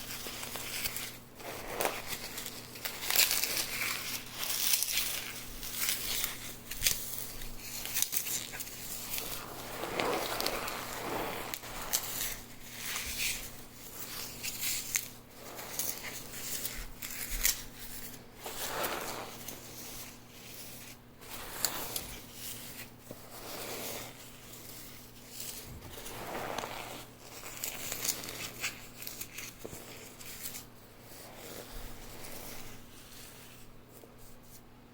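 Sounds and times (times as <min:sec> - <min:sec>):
floral foam crunching: 0:00.0 - 0:33.7
cornstarch squeaking: 0:00.0 - 0:34.6.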